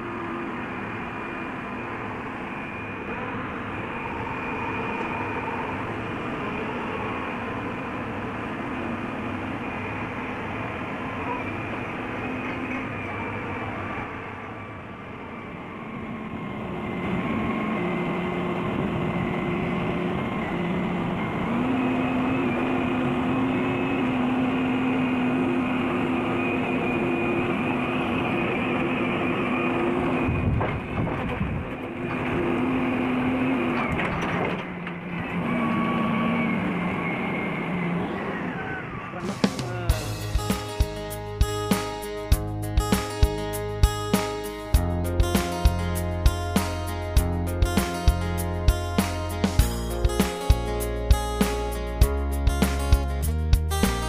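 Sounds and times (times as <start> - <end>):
crane engine droning: 0.0 - 54.0.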